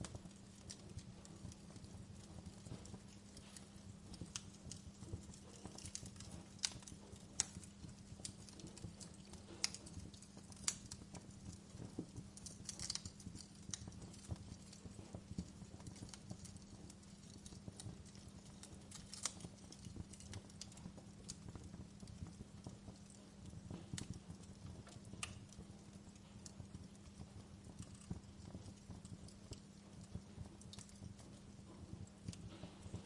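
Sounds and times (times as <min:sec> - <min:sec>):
low steady hum: 0:00.0 - 0:33.0
wood fire crackling: 0:00.0 - 0:33.0.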